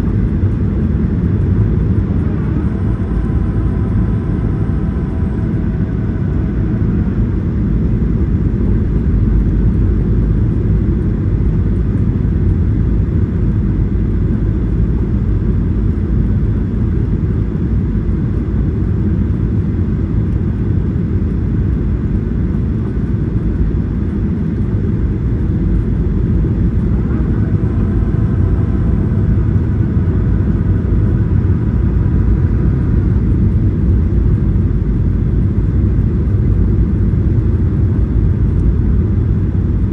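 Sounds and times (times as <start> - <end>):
faint multi-tone whine: 0.0 - 39.9
jet engine and airflow rumble: 0.0 - 39.9.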